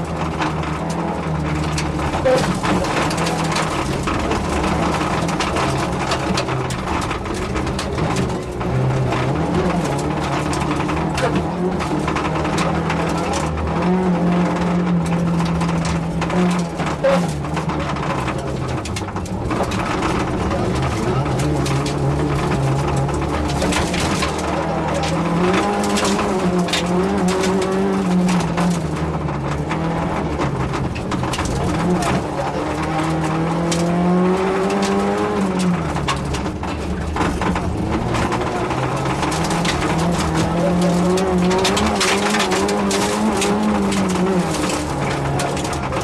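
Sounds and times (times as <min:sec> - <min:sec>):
gravel clattering against car: 0:00.0 - 0:46.0
rally car engine revving: 0:00.0 - 0:46.0.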